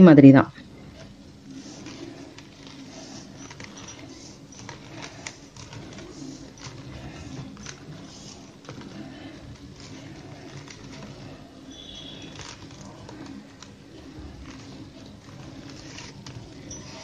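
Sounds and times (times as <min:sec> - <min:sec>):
wire clicking and rustling on weave: 0:00.5 - 0:17.0.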